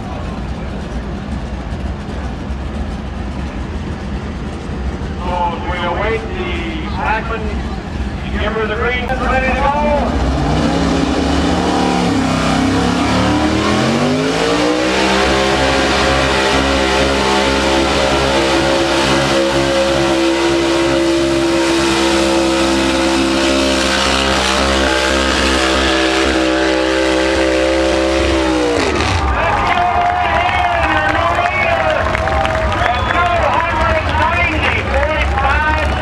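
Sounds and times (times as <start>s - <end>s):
truck engine revving: 0.0s - 36.0s.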